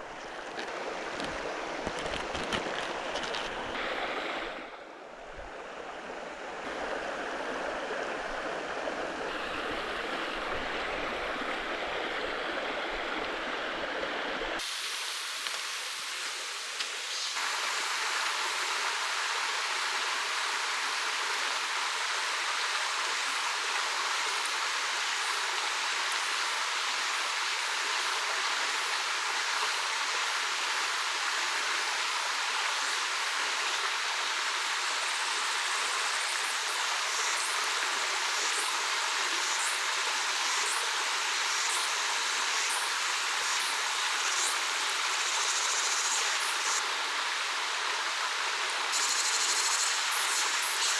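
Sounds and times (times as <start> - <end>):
stream rushing: 0.0 - 45.3.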